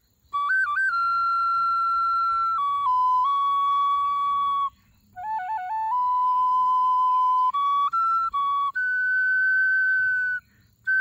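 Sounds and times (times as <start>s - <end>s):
breathy flute melody: 0.3s - 11.0s.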